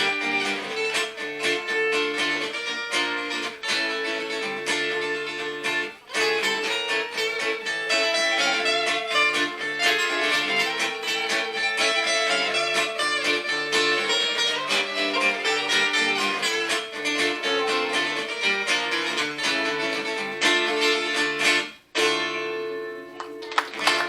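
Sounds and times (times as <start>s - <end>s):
guitar music: 0.0s - 24.0s.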